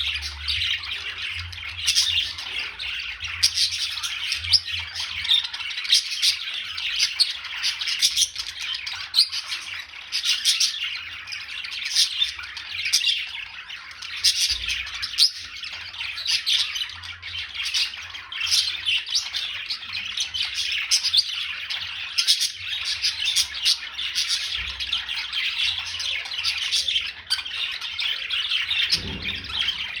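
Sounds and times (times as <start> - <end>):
flock of birds chirping: 0.0 - 30.0.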